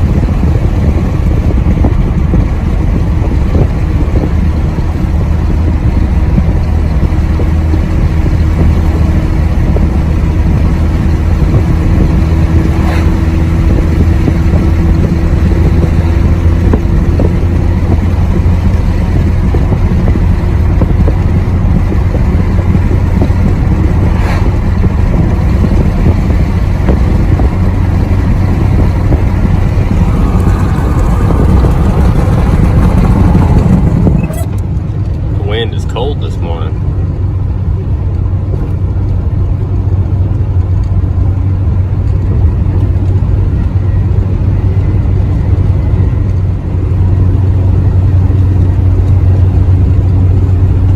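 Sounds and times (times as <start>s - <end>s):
truck engine and road noise: 0.0s - 50.9s.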